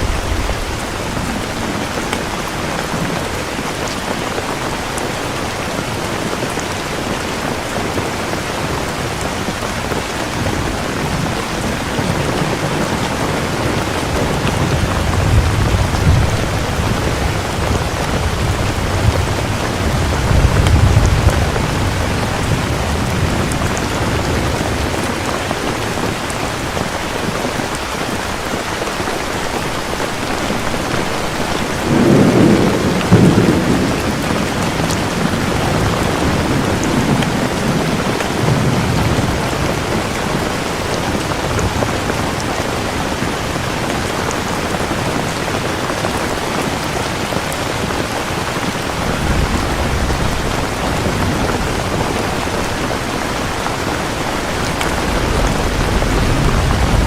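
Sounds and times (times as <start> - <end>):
thunder rumbling: 0.0 - 27.7, 29.6 - 57.0
heavy rain: 0.0 - 57.0.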